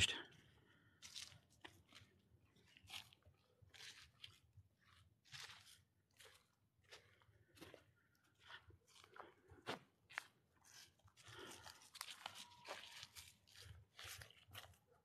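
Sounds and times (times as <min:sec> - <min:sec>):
footsteps crunching dry leaves: 0:01.0 - 0:15.0.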